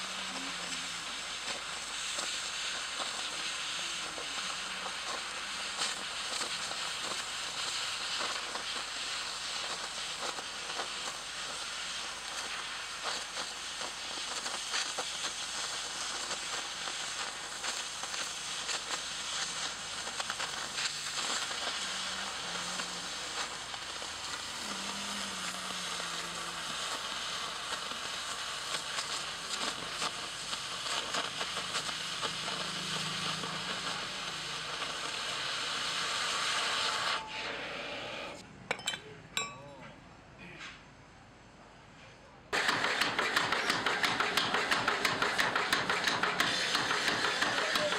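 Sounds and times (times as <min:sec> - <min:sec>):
sparks crackling: 0:00.0 - 0:37.3, 0:42.5 - 0:47.9
cutting torch hissing: 0:00.0 - 0:38.4, 0:42.5 - 0:47.9.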